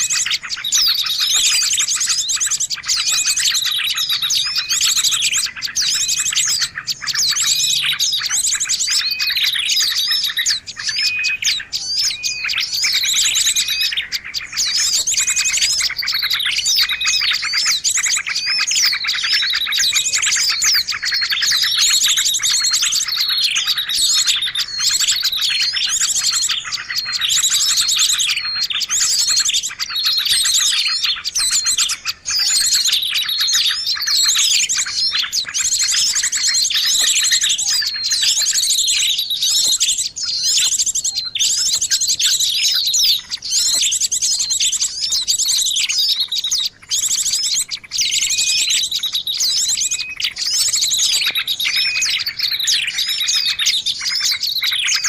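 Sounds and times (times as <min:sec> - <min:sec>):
chorus of small birds chirping: 0:00.0 - 0:55.0.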